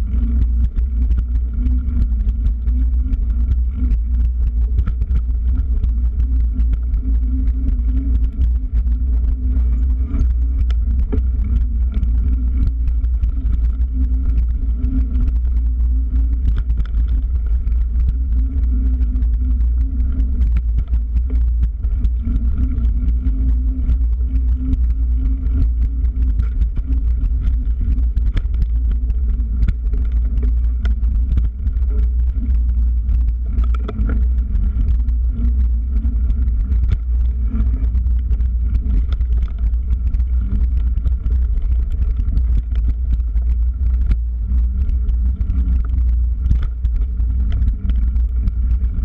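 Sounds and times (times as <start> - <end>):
bike rattles and clicks: 0.0 - 49.0
low rumble of wind and vibration: 0.0 - 49.0.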